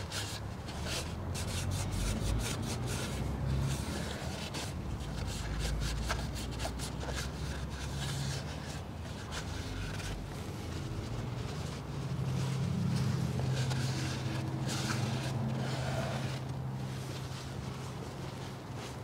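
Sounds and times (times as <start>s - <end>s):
rag wiping metal: 0.0s - 18.3s.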